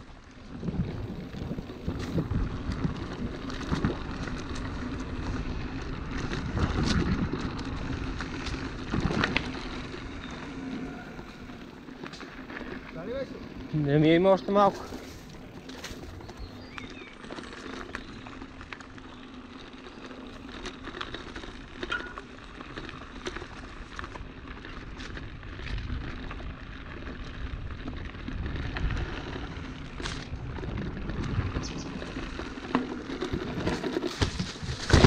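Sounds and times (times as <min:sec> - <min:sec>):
wind rumble on microphone: 0:00.0 - 0:13.9, 0:20.2 - 0:35.0
footsteps crunching on trail: 0:00.8 - 0:35.0.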